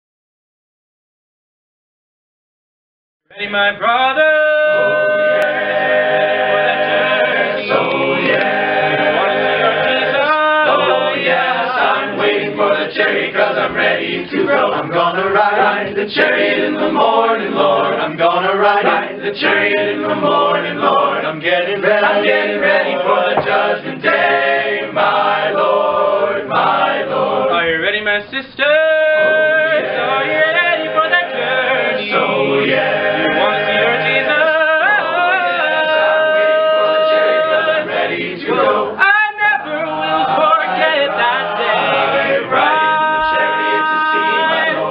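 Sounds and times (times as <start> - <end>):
male a cappella group singing: 3.3 - 44.9.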